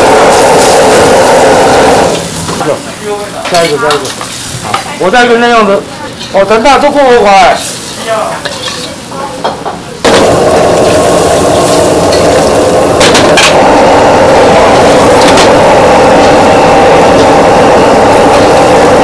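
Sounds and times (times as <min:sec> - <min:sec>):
gas burner roaring: 0:00.0 - 0:19.0.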